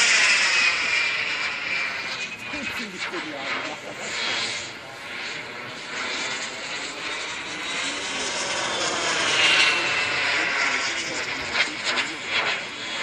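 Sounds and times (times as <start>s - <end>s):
jet turbine whine: 0.0s - 13.0s.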